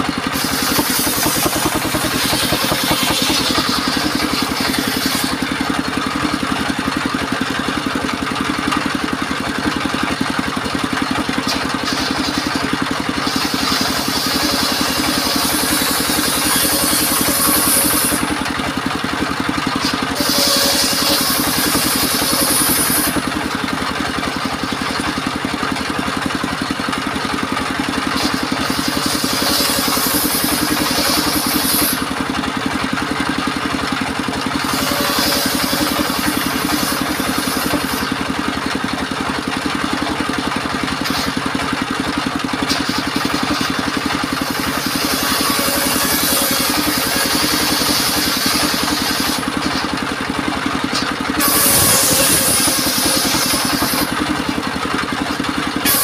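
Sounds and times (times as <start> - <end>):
sawmill blade cutting timber: 0.0 - 56.0.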